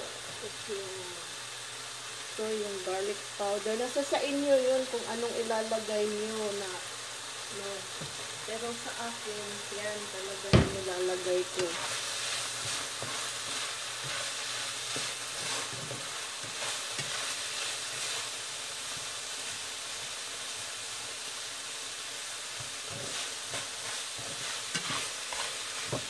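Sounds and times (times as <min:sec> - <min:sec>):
meat sizzling in a frying pan: 0:00.0 - 0:26.0.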